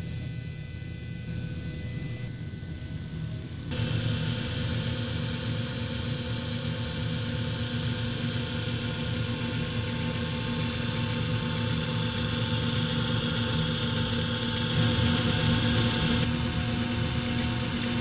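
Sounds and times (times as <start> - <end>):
mixer motor whirring hum: 0.0 - 18.0.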